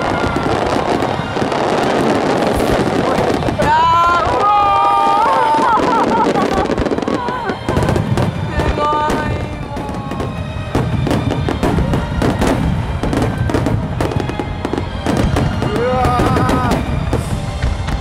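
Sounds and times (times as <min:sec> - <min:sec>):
firework bangs: 0:00.0 - 0:18.0
music: 0:00.0 - 0:18.0.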